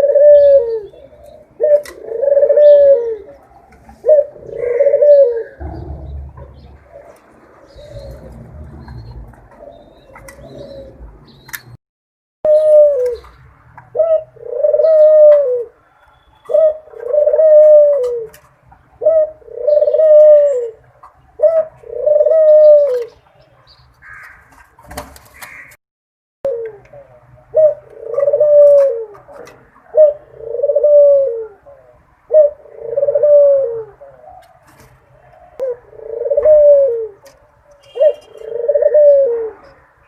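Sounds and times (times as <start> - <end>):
dove cooing: 0.0 - 11.4, 12.5 - 15.8, 16.4 - 18.4, 19.0 - 20.8, 21.4 - 23.2, 26.5 - 39.9.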